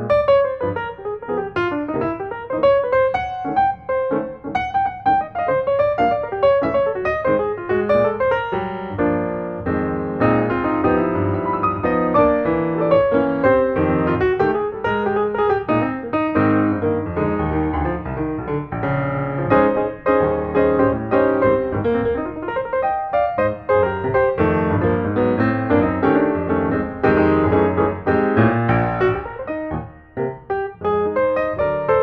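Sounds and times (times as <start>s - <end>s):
piano playing busy run: 0.0s - 32.0s.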